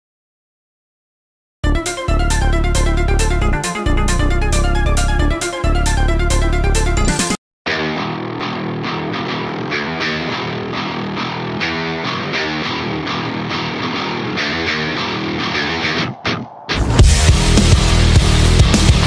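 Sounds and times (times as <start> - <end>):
guitar music with steady beat: 1.6 - 19.0.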